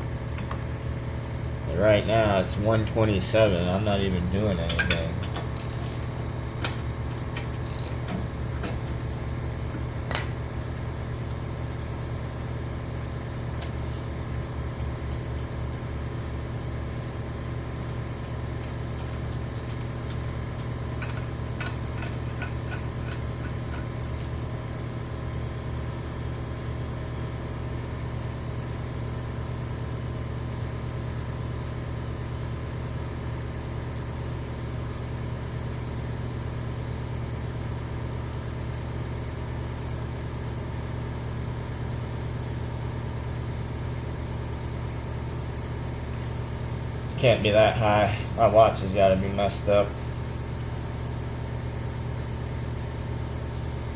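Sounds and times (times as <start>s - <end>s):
air compressor motor hum: 0.0s - 53.9s.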